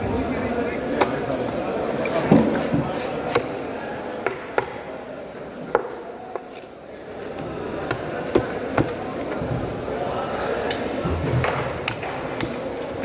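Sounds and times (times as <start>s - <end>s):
background hubbub: 0.0s - 13.0s.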